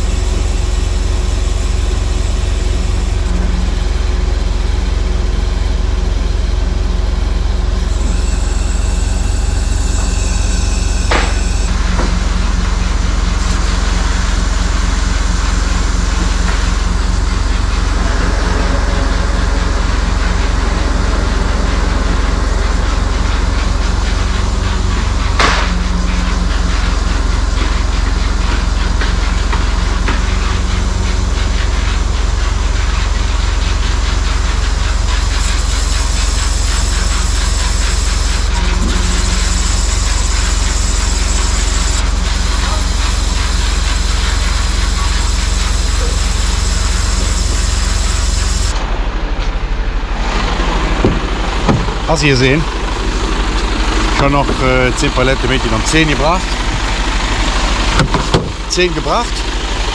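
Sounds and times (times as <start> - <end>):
diesel truck engine running: 0.0 - 59.9
low hydraulic hum: 0.0 - 59.9.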